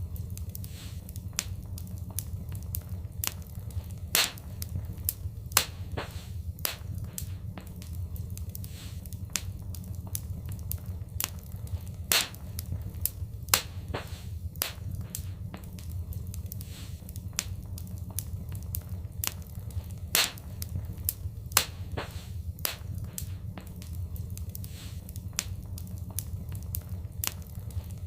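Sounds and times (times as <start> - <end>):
fire crackling and popping: 0.0 - 28.0
fire low rumble: 0.0 - 28.0.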